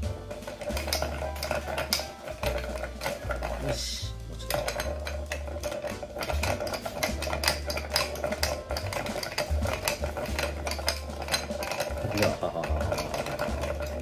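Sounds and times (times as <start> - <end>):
spoon stirring ice in glass: 0.0 - 14.0.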